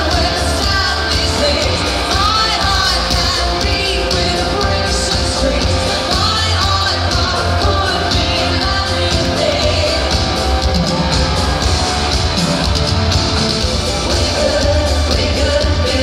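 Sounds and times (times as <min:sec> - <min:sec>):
live pop concert music: 0:00.0 - 0:16.0
person singing: 0:00.0 - 0:16.0
pulsing bass: 0:00.0 - 0:16.0.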